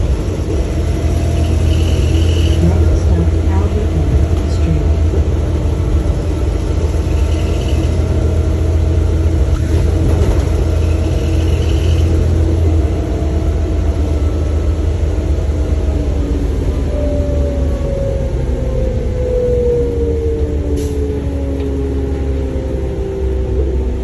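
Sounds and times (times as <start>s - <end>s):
bus engine rumble: 0.0s - 24.0s
steady whine: 0.0s - 24.0s.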